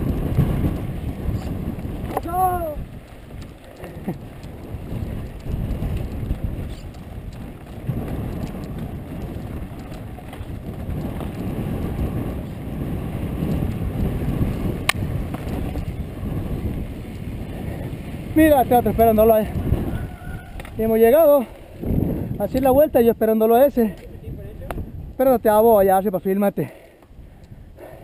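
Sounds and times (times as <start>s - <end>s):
bike tyres rumbling and rattling: 0.0s - 28.0s
wind buffeting microphone: 0.0s - 28.0s.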